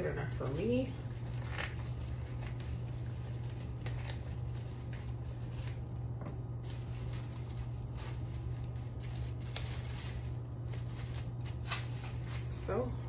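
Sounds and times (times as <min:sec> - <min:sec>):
plastic wrap rustling: 0:00.0 - 0:12.9
steady low hum: 0:00.0 - 0:13.0.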